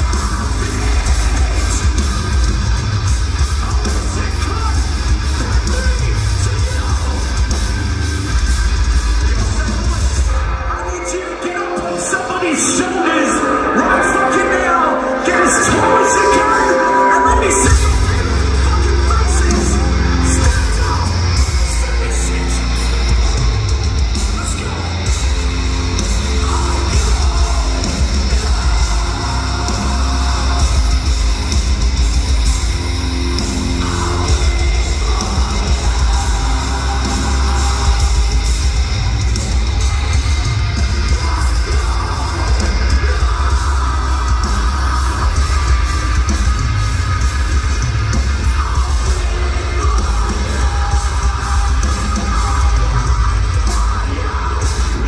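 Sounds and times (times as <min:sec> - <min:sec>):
bass: 0:00.0 - 0:55.0
distorted guitars: 0:00.0 - 0:55.0
drums: 0:00.0 - 0:55.0.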